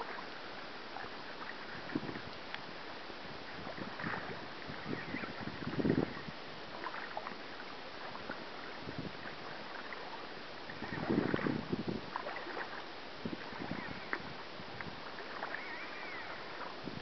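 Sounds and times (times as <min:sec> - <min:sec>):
river water lapping and splashing: 0:00.0 - 0:17.0
water drips and trickles: 0:00.0 - 0:17.0.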